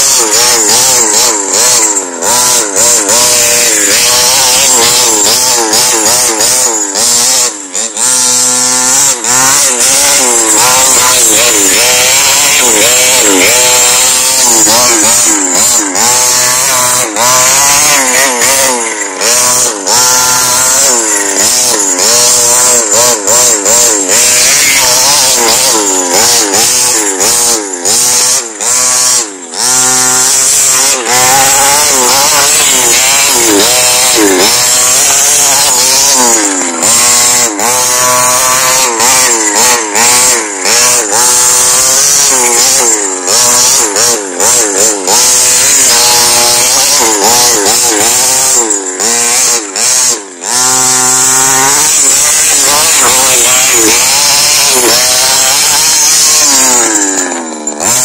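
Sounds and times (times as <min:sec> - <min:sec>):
toy car motor whining: 0:00.0 - 0:58.0.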